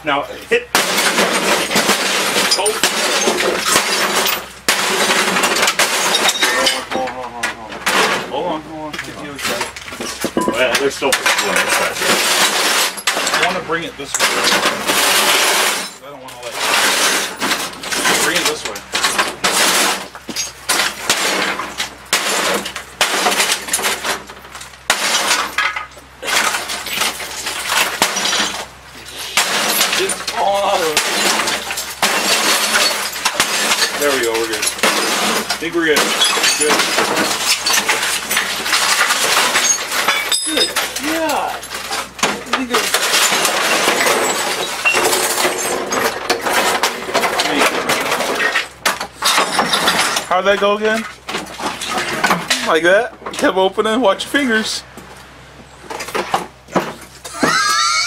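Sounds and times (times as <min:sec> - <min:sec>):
debris crunching and clattering: 0:00.0 - 0:53.5, 0:55.7 - 0:58.0
sledgehammer smashing plastic: 0:00.5 - 0:08.5, 0:09.4 - 0:52.8.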